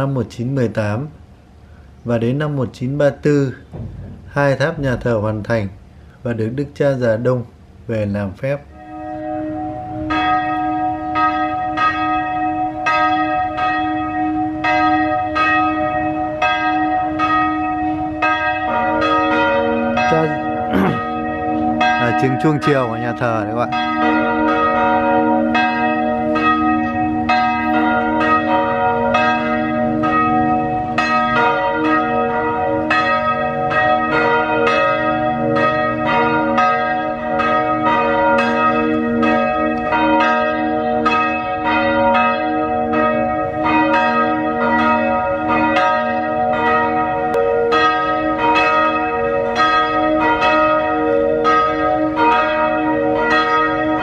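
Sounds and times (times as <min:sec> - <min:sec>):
church bells ringing: 0:00.0 - 0:07.7, 0:08.4 - 0:54.0.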